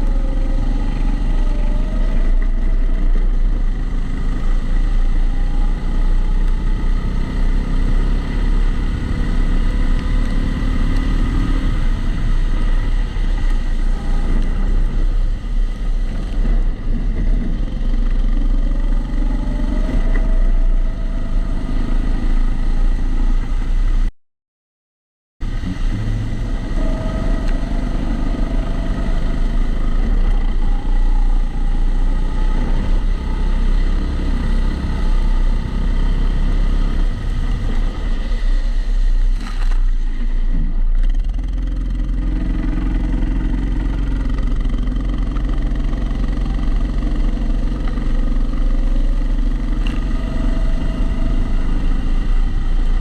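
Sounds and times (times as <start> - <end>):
muffled kart engine revving: 0.0 - 23.6, 25.4 - 53.0.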